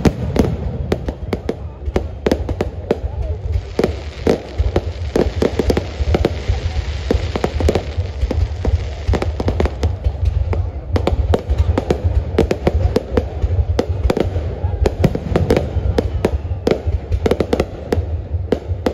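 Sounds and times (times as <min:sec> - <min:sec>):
fireworks bangs: 0:00.0 - 0:18.9.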